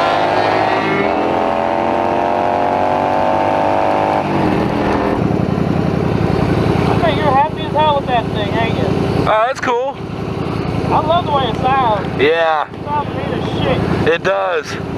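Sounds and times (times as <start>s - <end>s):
motorcycle engine accelerating: 0.0s - 14.9s.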